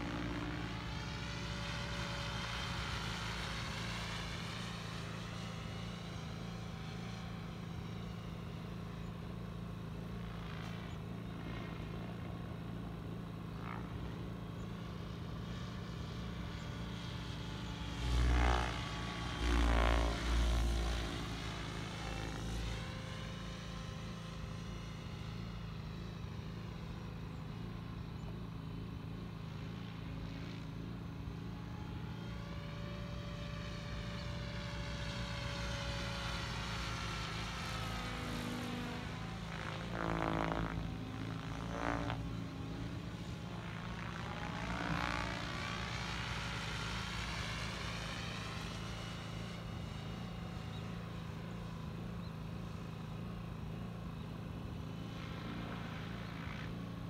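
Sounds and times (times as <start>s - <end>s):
model helicopter rotor drone: 0.0s - 57.0s.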